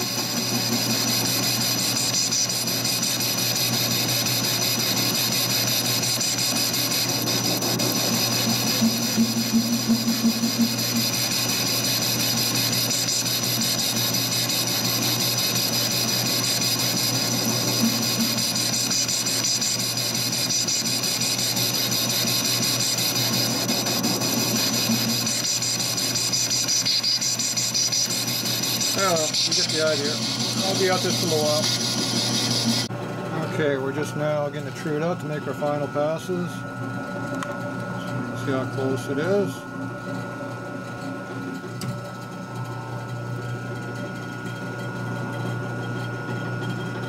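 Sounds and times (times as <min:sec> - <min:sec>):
metal lathe cutting steel: 0:00.0 - 0:36.8, 0:38.3 - 0:40.2.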